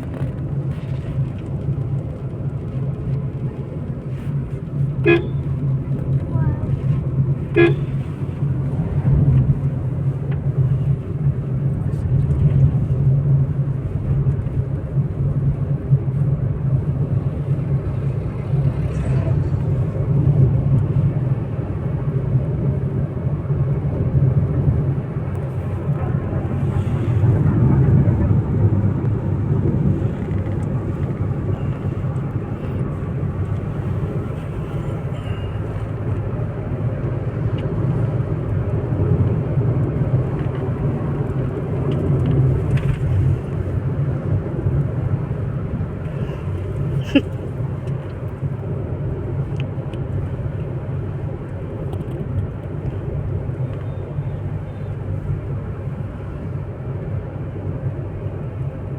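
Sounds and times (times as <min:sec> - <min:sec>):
car engine and road noise: 0:00.0 - 0:58.9.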